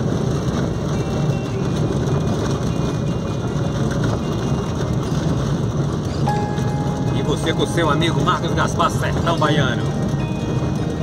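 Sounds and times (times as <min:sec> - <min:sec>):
car driving over wet cobblestones: 0:00.0 - 0:11.0.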